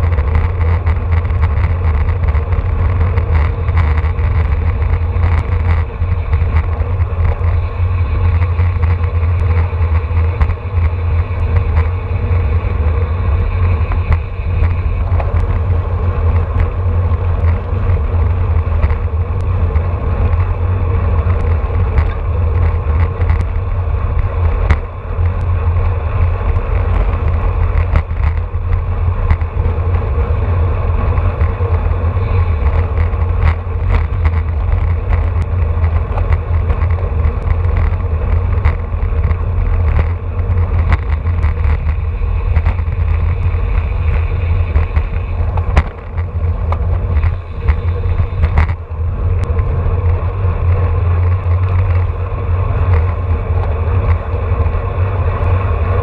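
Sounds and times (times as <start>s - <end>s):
bike clicks and knocks: 0.0s - 56.0s
wind buffeting microphone: 0.0s - 56.0s.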